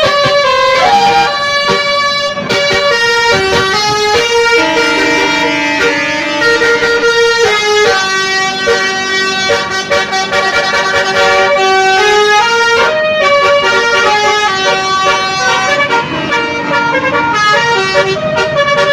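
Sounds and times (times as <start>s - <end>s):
bus musical horn playing a tune: 0.0s - 18.9s.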